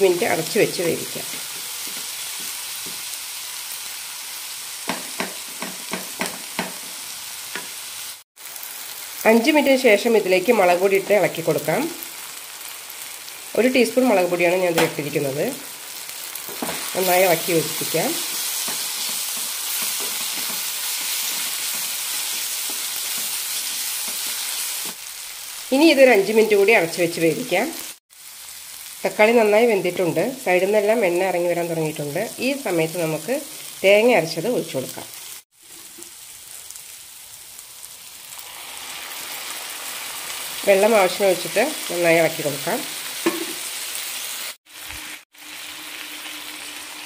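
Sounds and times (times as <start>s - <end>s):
onions sizzling in oil: 0.0s - 47.0s.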